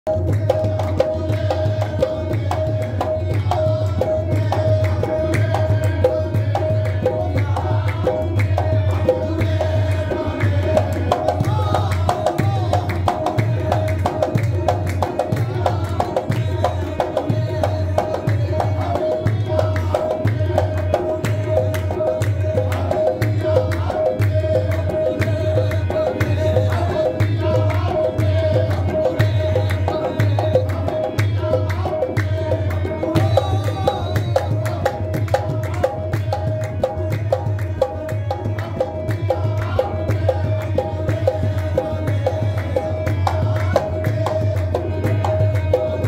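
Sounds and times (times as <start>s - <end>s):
hand drum rhythm: 0.1s - 46.0s
harmonium: 0.1s - 46.0s
voices singing: 0.1s - 46.0s.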